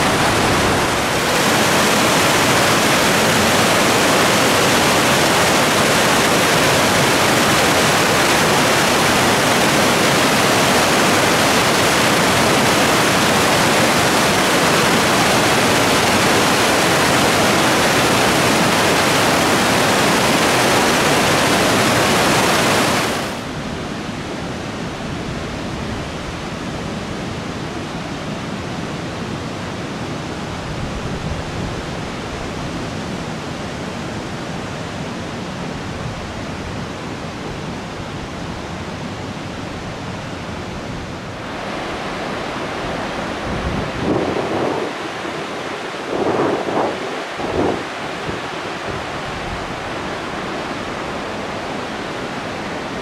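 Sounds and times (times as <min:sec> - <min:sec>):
river rushing over rapids: 0:00.0 - 0:53.0.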